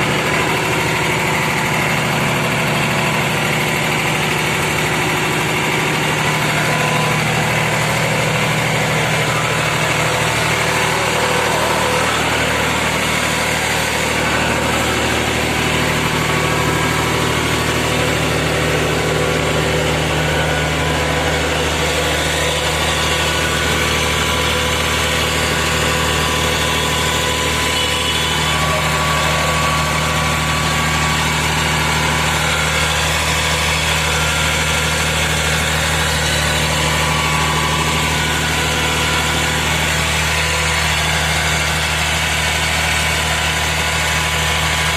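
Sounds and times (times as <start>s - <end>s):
tractor diesel engine idling: 0.0s - 44.9s.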